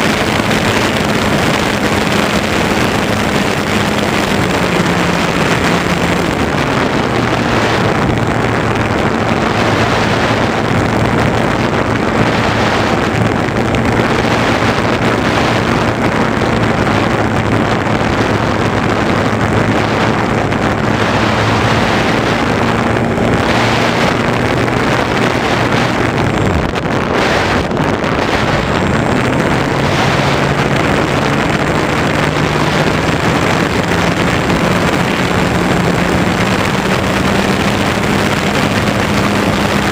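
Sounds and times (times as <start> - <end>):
airflow rushing over microphone: 0.0 - 39.9.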